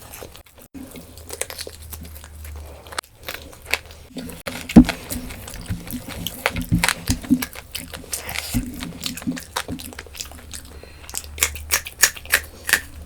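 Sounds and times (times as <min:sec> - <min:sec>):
chewing with wet mouth clicks: 0:00.0 - 0:13.0.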